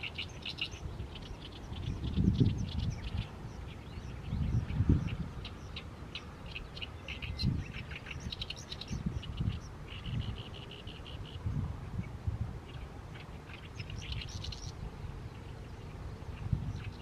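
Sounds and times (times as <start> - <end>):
reed warbler singing: 0.0 - 17.0.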